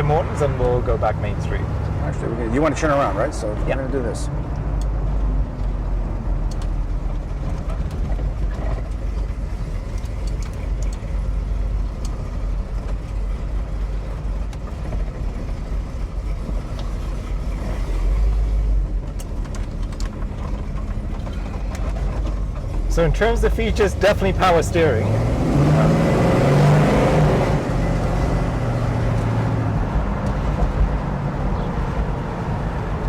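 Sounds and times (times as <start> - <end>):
car engine rumble inside cabin: 0.0 - 33.0.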